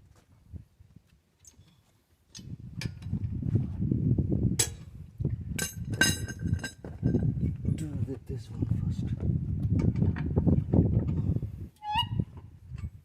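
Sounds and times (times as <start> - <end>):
low rumbling handling noise: 2.4 - 13.0.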